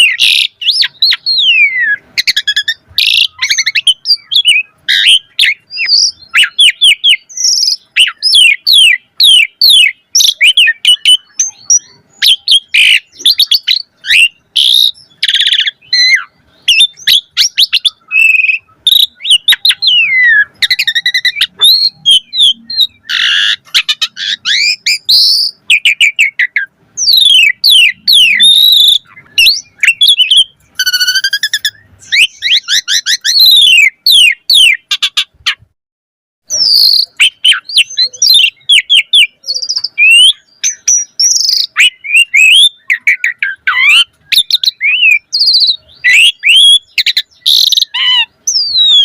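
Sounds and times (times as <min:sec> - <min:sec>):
starling singing: 0:00.0 - 0:35.7, 0:36.5 - 0:49.0.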